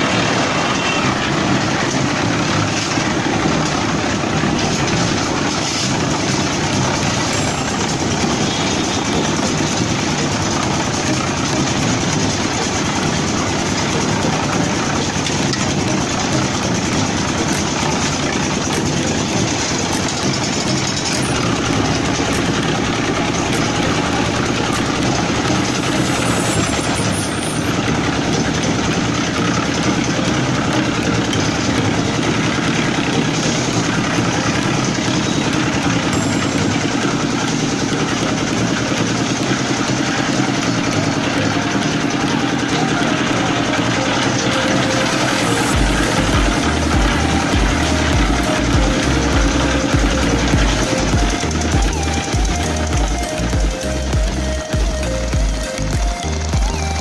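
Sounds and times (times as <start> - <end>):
concrete mixer running: 0.0 - 57.0.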